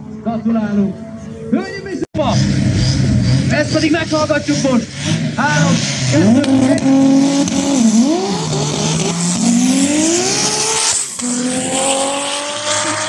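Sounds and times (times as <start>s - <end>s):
drag race car engines accelerating: 2.2s - 13.0s.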